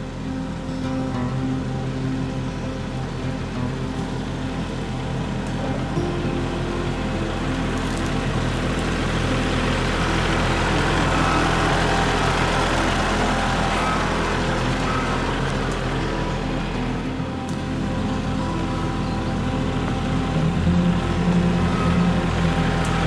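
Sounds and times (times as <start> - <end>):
tractor diesel engine passing: 0.0 - 23.0.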